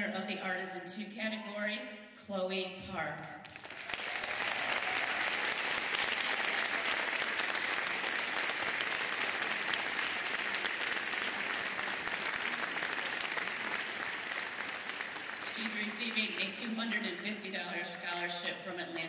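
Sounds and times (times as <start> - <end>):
audience applauding: 3.4 - 19.0.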